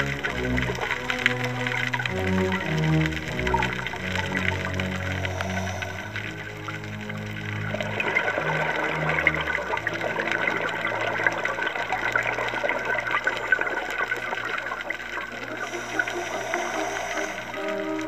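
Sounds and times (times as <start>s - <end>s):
crackling rushing underwater noise: 0.0s - 18.0s.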